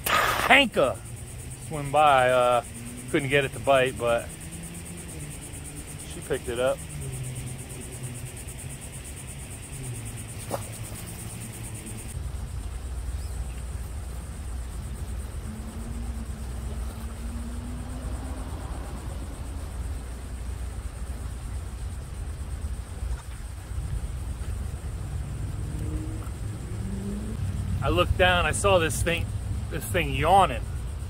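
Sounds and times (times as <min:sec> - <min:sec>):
faint rising hum: 0:00.0 - 0:22.8, 0:23.7 - 0:31.0
insects buzzing: 0:00.0 - 0:31.0.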